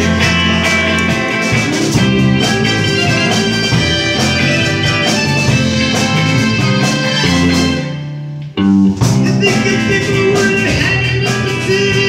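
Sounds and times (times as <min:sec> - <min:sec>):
bass line: 0:00.0 - 0:12.0
drum kit beat: 0:00.0 - 0:12.0
electric guitars: 0:00.0 - 0:12.0.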